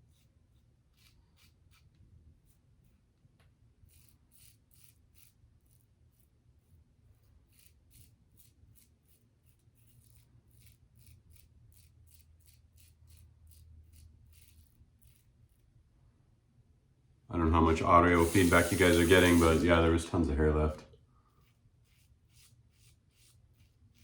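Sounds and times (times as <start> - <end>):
razor scraping stubble: 0.1 - 3.0, 3.8 - 15.7, 17.4 - 24.0.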